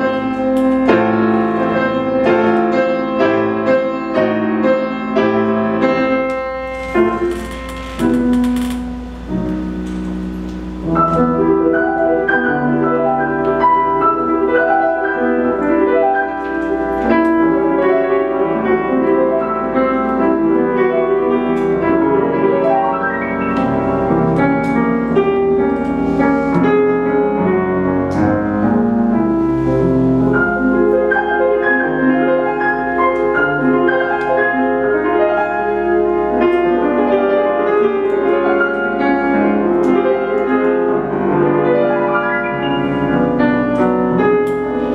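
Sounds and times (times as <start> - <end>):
grand piano fast notes: 0.0 - 44.9.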